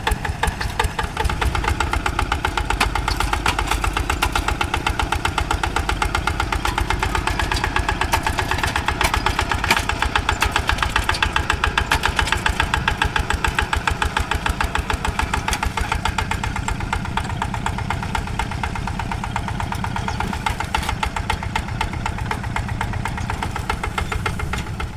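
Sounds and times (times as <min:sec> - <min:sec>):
diesel engine chugging: 0:00.0 - 0:24.9.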